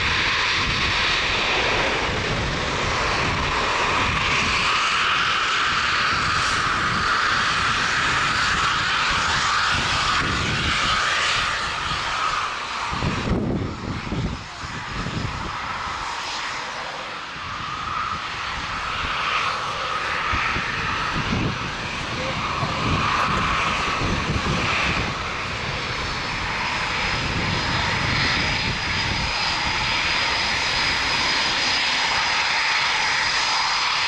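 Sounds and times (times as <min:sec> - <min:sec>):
jet roar with whine: 0:00.0 - 0:34.0.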